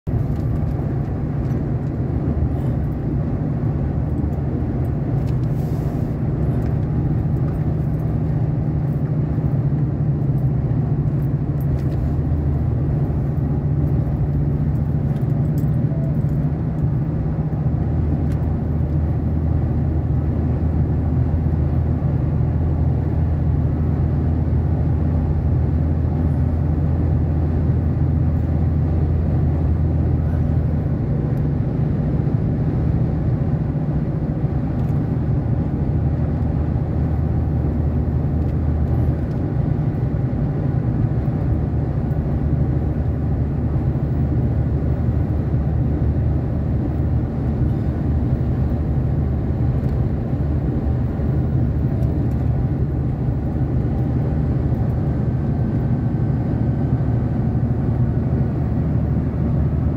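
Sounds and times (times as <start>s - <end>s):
engine drone: 0.1s - 59.9s
road noise: 0.1s - 59.9s.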